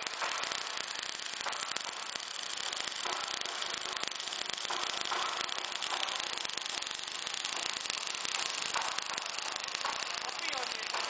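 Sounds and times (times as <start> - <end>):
welding arc crackling and sizzling: 0.0 - 11.0.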